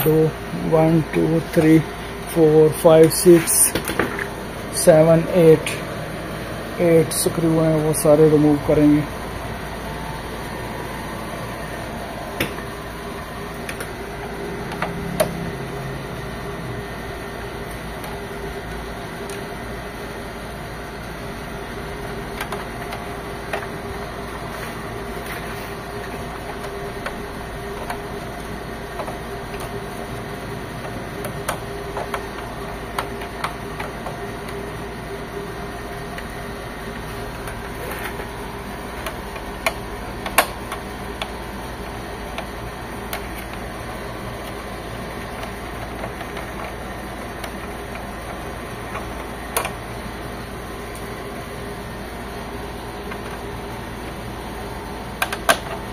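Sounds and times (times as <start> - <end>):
steady mechanical hum: 0.0 - 55.9.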